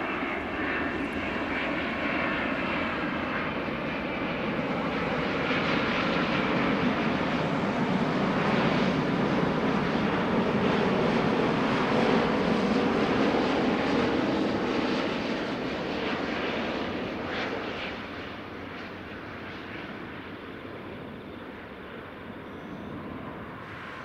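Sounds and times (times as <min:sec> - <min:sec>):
airliner engines passing by: 0:00.0 - 0:24.0.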